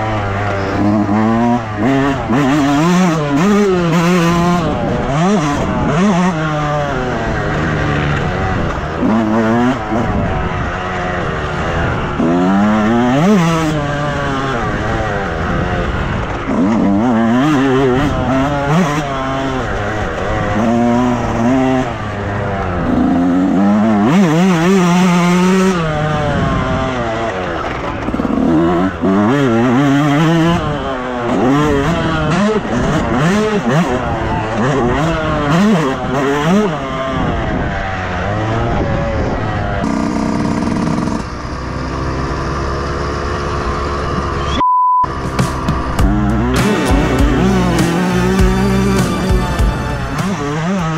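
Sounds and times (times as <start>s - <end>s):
motocross bike engine revving: 0.0s - 44.5s, 45.1s - 50.9s.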